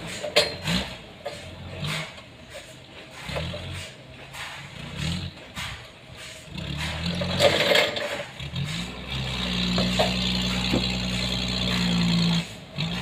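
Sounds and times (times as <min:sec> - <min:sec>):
forklift engine revving: 0:00.0 - 0:13.0.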